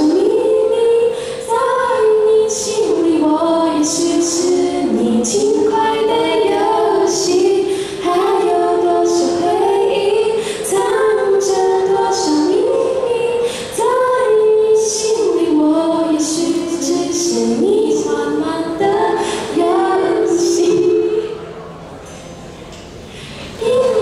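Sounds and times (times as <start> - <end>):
women singing in harmony: 0.0 - 21.6, 23.4 - 24.0.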